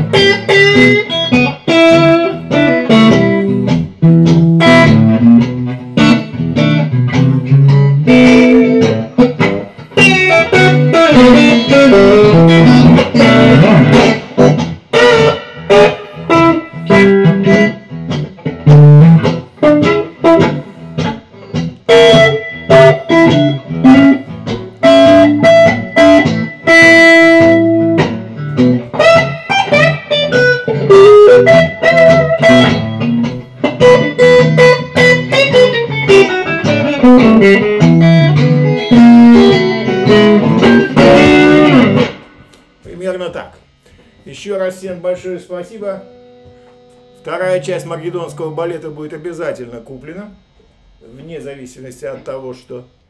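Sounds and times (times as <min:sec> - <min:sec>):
blues electric guitar: 0:00.0 - 0:53.0.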